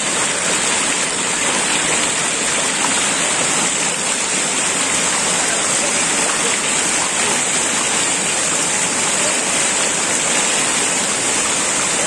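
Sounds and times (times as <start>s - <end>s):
water spilling over rocks: 0.0s - 12.0s
waterfall rushing: 0.0s - 12.0s.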